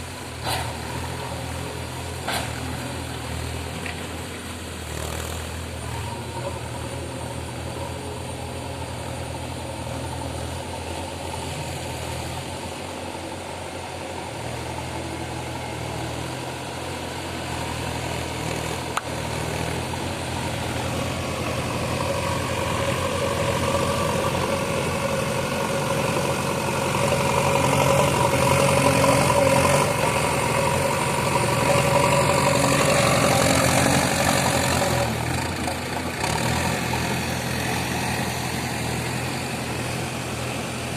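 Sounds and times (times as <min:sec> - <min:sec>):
diesel excavator engine running: 0:00.0 - 0:40.9.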